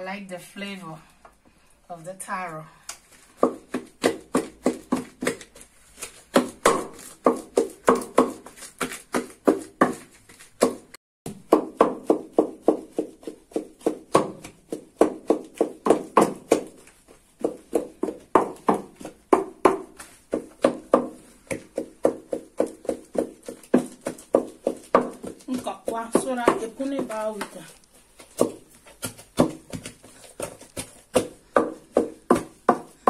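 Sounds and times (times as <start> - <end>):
wooden pestle pounding in mortar: 3.2 - 33.0.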